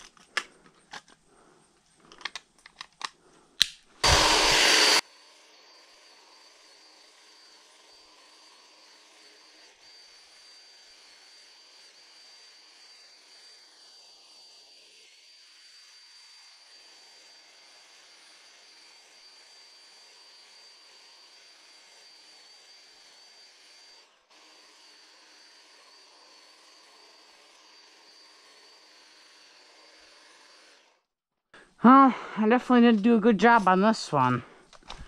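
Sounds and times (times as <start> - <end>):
hedge trimmer whining: 4.0 - 14.8, 16.5 - 31.0, 31.8 - 35.0.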